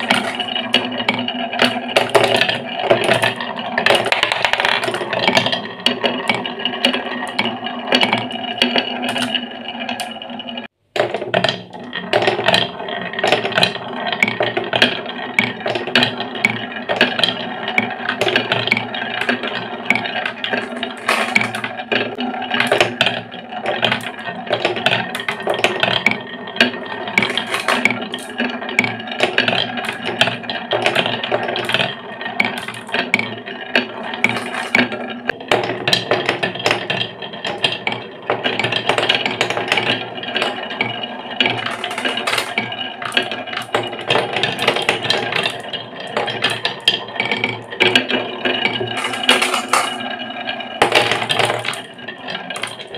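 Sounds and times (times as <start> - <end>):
marbles clattering on wooden tracks: 0.0 - 52.9.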